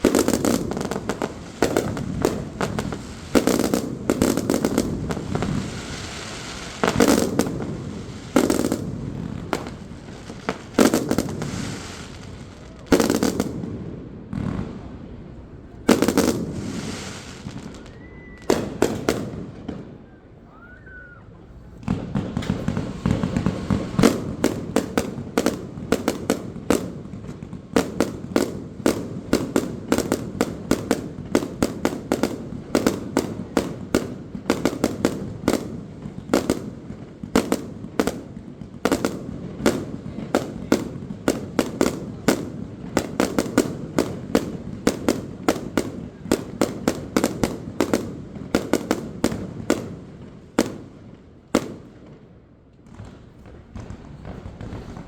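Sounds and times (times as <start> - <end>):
fireworks bangs and cracks: 0.0 - 55.0.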